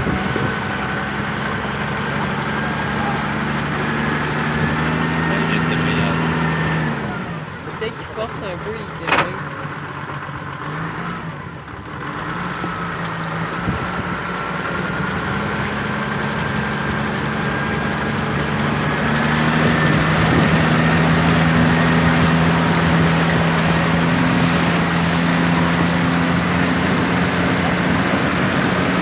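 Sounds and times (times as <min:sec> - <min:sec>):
vehicle engine running under load: 0:00.0 - 0:29.0.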